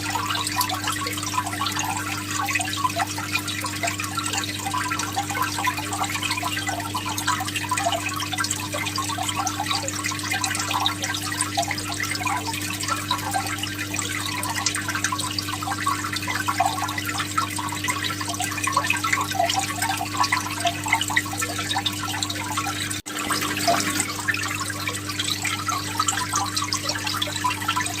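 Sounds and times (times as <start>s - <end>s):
aquarium water trickling: 0.0s - 28.0s.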